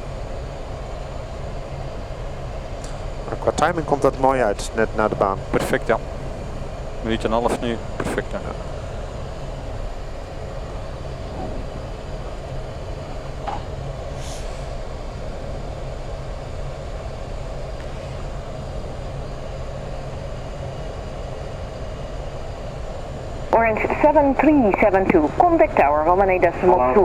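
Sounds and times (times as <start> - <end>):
jet engines taxiing rumble: 0.0 - 27.0.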